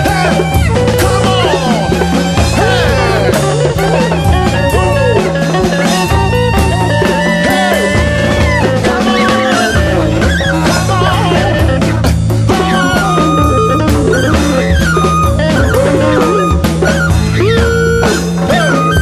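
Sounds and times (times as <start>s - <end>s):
bass line: 0.0s - 19.0s
drum kit: 0.0s - 19.0s
lead line with bending notes: 0.0s - 19.0s.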